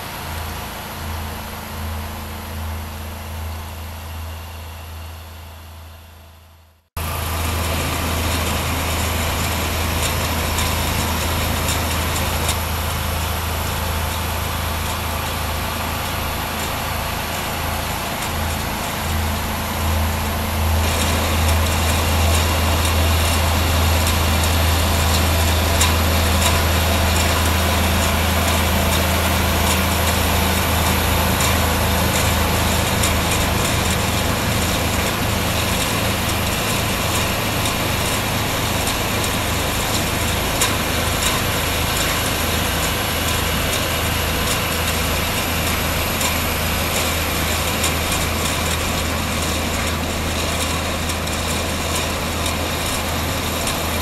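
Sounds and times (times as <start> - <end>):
machinery hum and hiss: 0.0 - 54.0.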